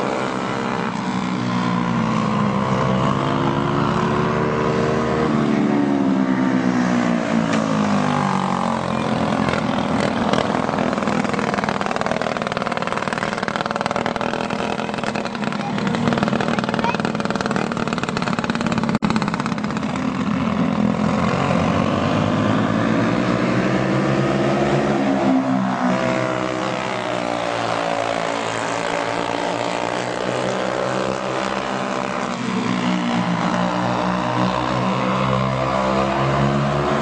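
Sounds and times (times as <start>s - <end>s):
go-kart engines revving: 0.0s - 37.0s.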